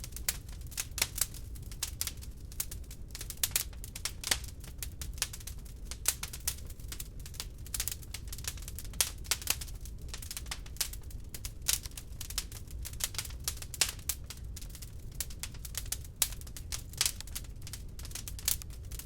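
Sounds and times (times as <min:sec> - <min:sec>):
log fire crackling: 0:00.0 - 0:19.0
low rumble of flames: 0:00.0 - 0:19.0.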